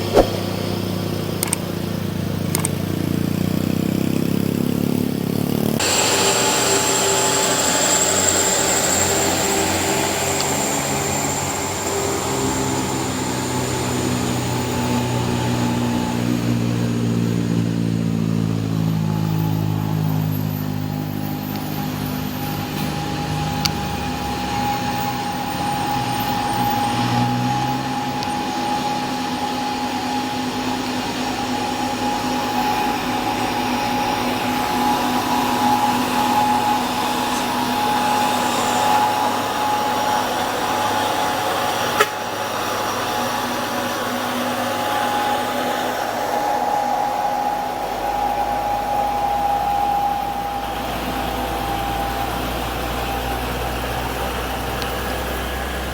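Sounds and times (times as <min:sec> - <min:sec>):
truck engine whining: 0:00.0 - 0:55.9.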